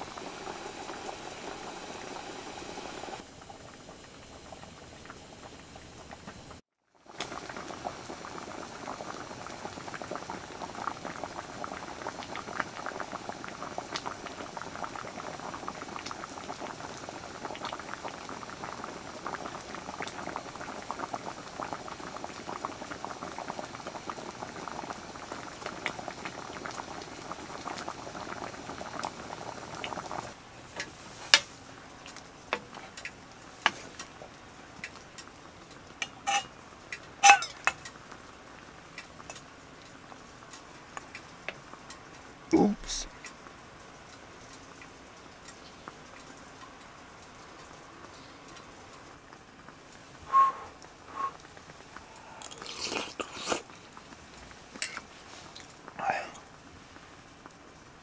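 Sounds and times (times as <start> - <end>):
stew bubbling in a pot: 0.0 - 58.0.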